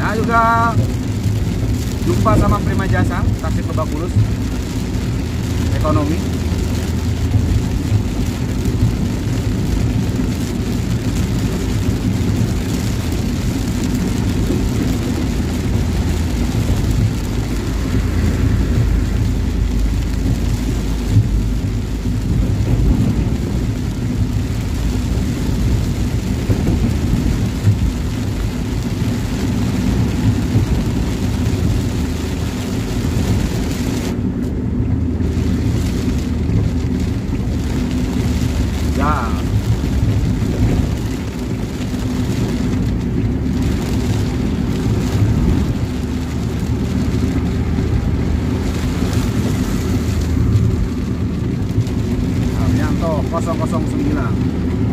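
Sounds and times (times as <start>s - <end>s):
rain on windscreen: 0.0s - 54.9s
vehicle engine and road rumble: 0.0s - 54.9s.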